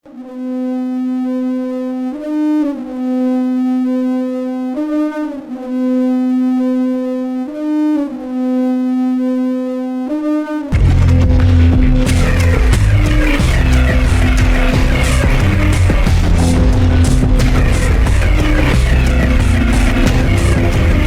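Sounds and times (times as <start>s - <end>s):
buzzy electronic tone: 0.1s - 21.0s.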